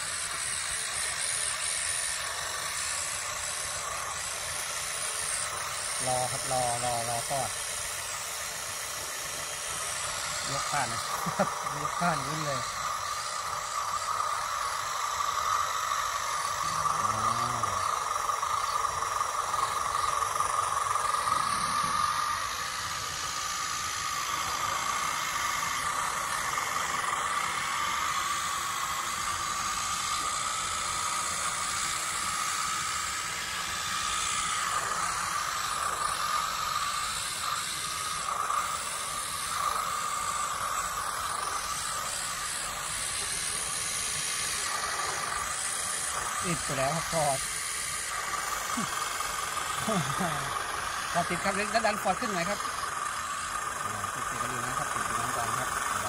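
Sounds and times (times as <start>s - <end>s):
model tractors whining: 0.0s - 56.0s.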